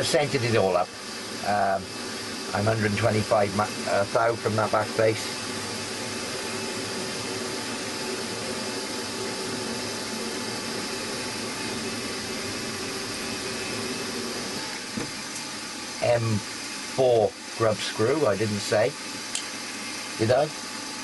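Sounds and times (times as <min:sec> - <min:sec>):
drill boring into metal: 0:00.0 - 0:21.0.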